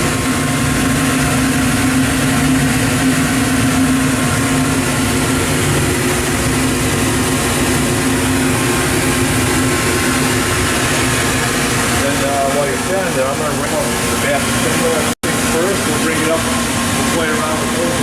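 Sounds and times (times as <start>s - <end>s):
machine idling drone: 0.0s - 18.0s.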